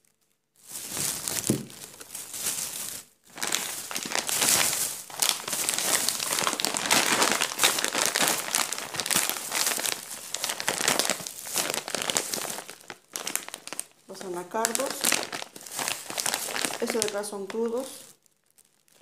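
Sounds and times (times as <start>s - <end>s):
plastic bags crinkling: 0.1s - 19.0s.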